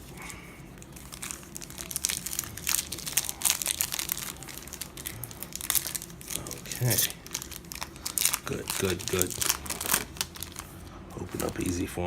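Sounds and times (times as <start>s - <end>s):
foil wrapper crinkling and tearing: 0.0s - 11.8s.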